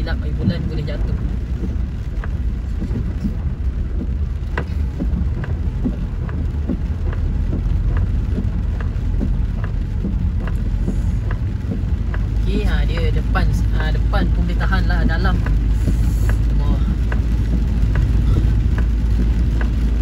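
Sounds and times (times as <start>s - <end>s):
car rumbling through water: 0.0s - 20.0s
raindrops ticking on car: 0.0s - 20.0s.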